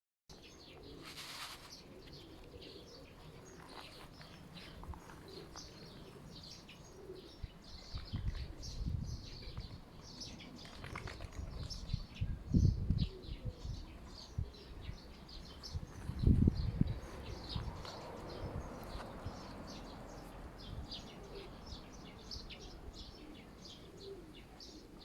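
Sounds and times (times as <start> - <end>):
small birds chirping: 0.3 - 25.0.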